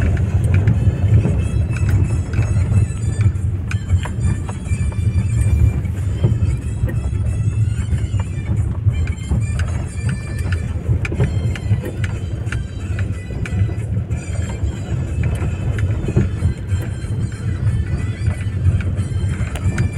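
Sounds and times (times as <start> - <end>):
car engine and tyres rumbling: 0.0 - 19.9
music playing: 0.0 - 19.9.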